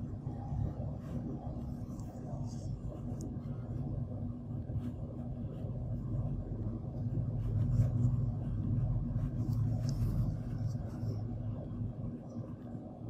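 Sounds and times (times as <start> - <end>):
constant low hum: 0.0 - 13.0
low background rumble: 0.0 - 13.0.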